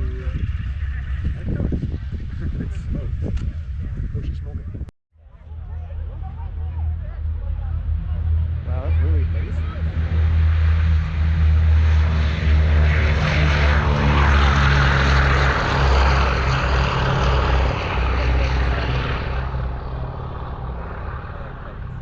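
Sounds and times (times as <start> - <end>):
propeller airplane flying past: 0.0 - 22.0.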